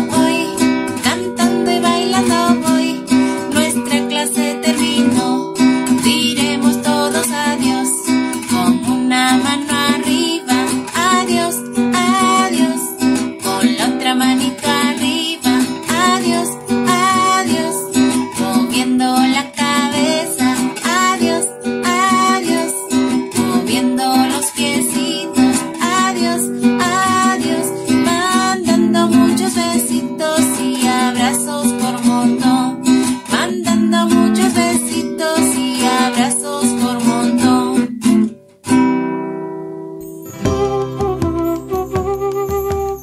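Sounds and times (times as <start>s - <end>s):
strummed acoustic guitar: 0.0s - 43.0s.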